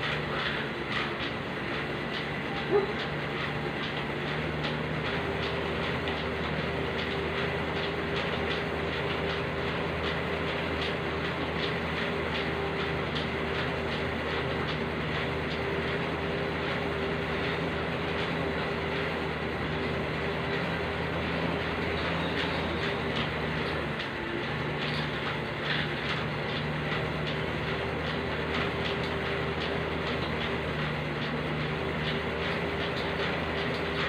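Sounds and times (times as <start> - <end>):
flywheel whirring: 0.0 - 34.0
rhythmic pedal clicking: 0.0 - 34.0.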